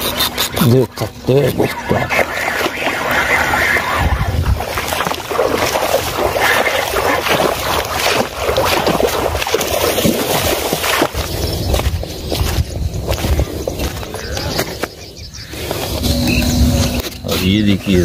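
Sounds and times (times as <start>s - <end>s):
wind buffeting microphone: 1.0s - 18.0s.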